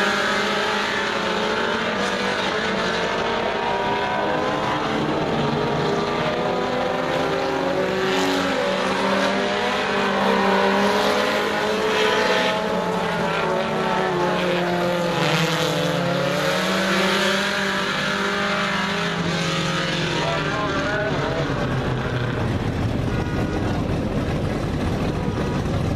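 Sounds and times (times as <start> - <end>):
race car engines: 0.0 - 25.9.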